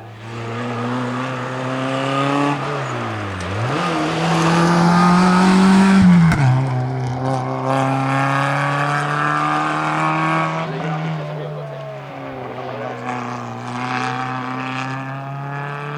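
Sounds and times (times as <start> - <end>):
rally car engine revving: 0.0 - 15.9.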